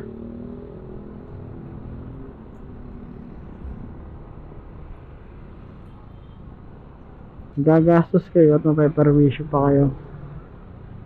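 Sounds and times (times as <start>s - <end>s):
scooter engine road and wind rumble: 0.0s - 11.0s.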